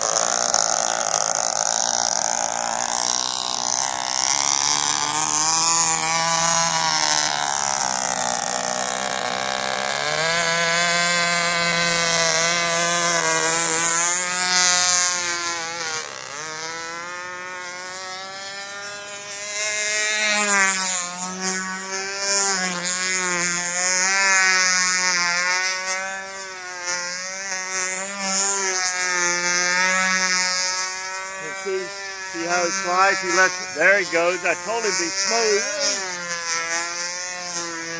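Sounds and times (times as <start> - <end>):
model plane engine buzzing: 0.0 - 37.9.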